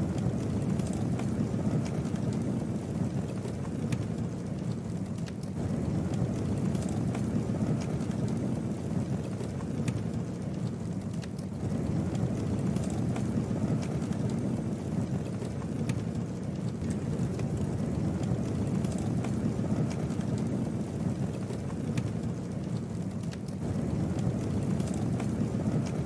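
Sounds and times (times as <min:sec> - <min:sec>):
low rumble of flames: 0:00.0 - 0:26.0
wood crackling and popping: 0:00.0 - 0:26.0.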